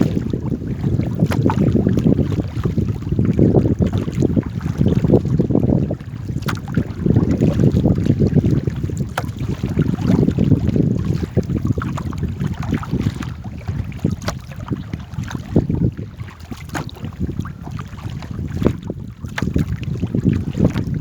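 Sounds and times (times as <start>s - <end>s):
water splashes: 0.0s - 21.0s
wind buffeting microphone: 0.0s - 21.0s.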